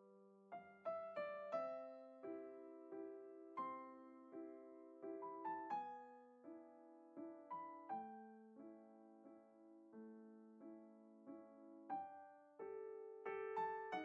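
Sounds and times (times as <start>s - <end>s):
slow piano notes: 0.0s - 14.0s.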